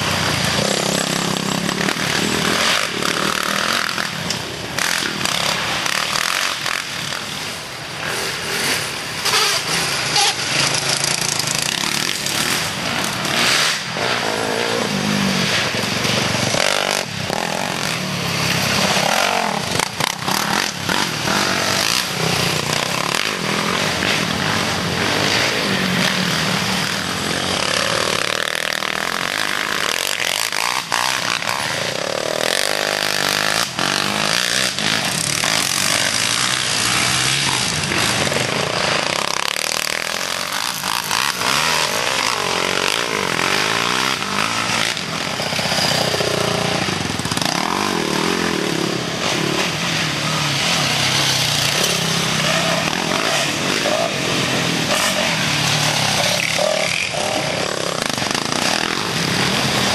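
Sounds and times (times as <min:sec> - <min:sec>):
race engines revving: 0:00.0 - 0:59.9.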